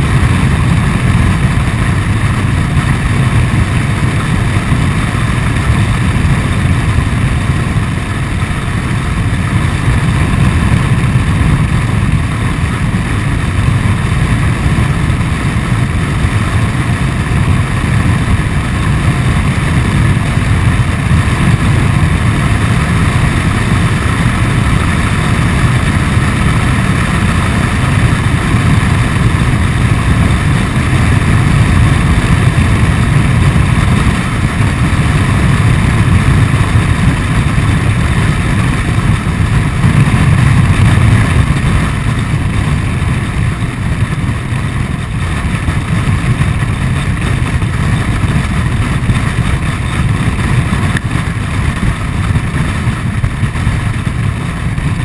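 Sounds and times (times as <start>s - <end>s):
road noise: 0.0s - 55.0s
scooter engine: 0.0s - 55.0s
wind rumble on microphone: 0.0s - 55.0s.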